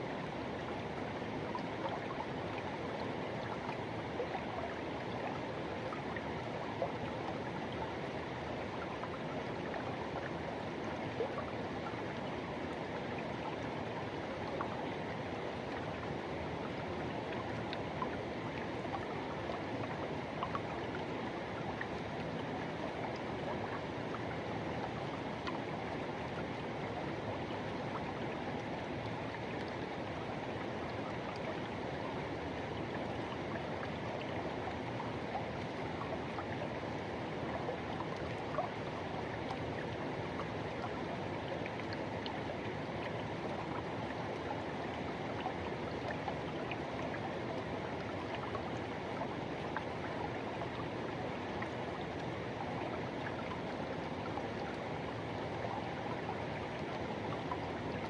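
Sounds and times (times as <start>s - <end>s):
river rushing and gurgling: 0.0s - 58.0s.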